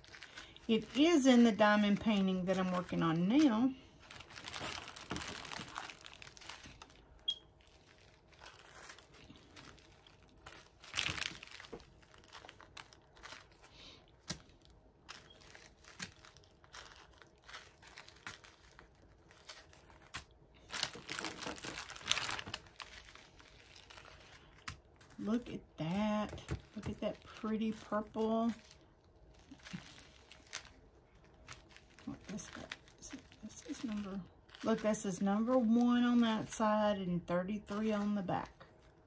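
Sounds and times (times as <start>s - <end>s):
plastic bags crinkling: 0.0s - 36.6s, 37.6s - 39.0s.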